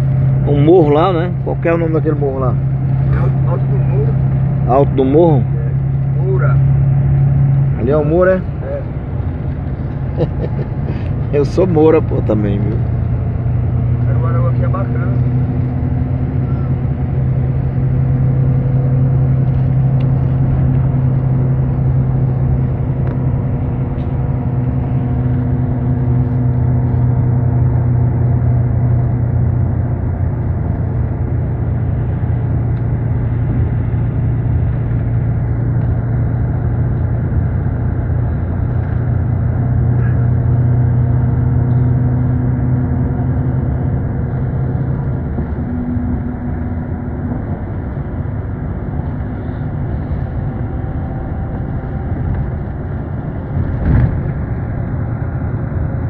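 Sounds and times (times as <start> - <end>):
road rumble: 0.0 - 56.0
vehicle engine drone: 0.0 - 56.0.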